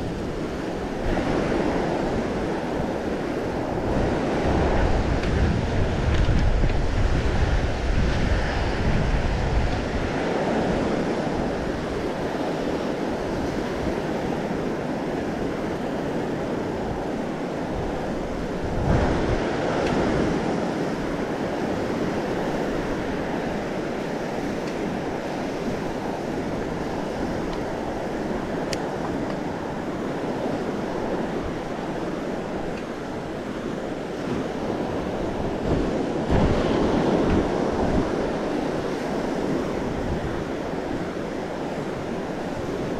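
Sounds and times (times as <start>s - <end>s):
ocean surf washing on beach: 0.0s - 42.9s
wind buffeting microphone: 0.0s - 42.9s.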